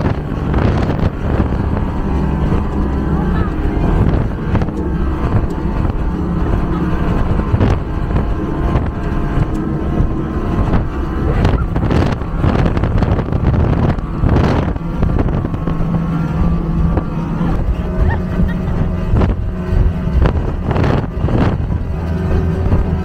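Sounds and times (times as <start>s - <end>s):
outboard motor running at high speed: 0.0s - 23.0s
wind rushing over the microphone: 0.0s - 23.0s.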